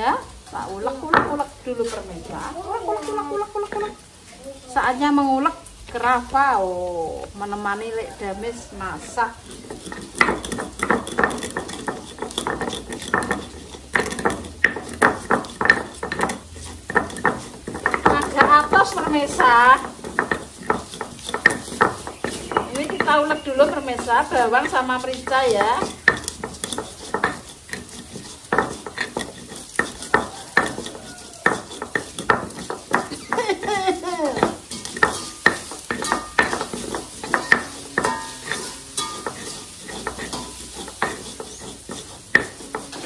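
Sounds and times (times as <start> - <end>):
pestle grinding in a mortar: 0.0 - 43.0.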